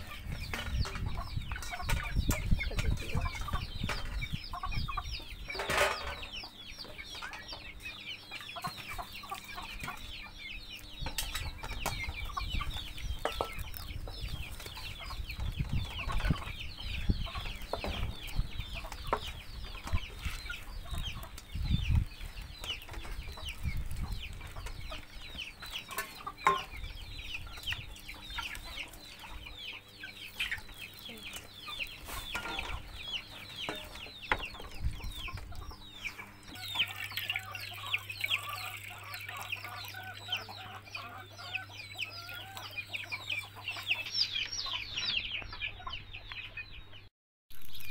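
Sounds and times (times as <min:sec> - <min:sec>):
chickens cheeping: 0:00.0 - 0:47.1.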